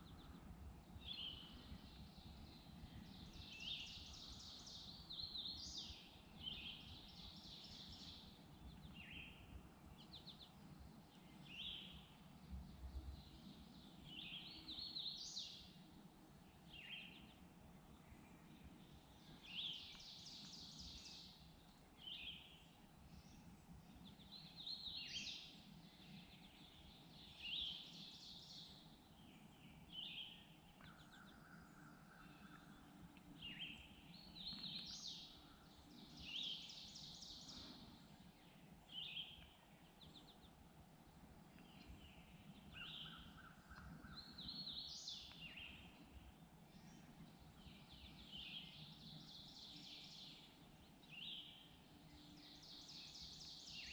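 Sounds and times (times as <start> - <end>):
faint low rumble: 0.0 - 53.9
songbirds singing: 0.0 - 53.9.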